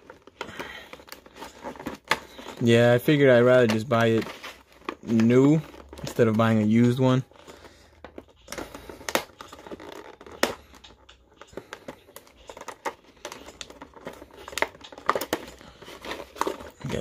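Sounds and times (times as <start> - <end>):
thin plastic crinkling and snapping: 0.0 - 17.0.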